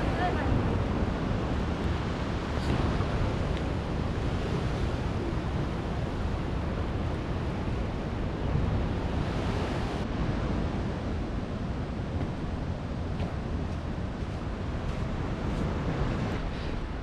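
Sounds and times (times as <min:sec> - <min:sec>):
ocean surf washing in: 0:00.0 - 0:17.0
wind rumbling on microphone: 0:00.0 - 0:17.0.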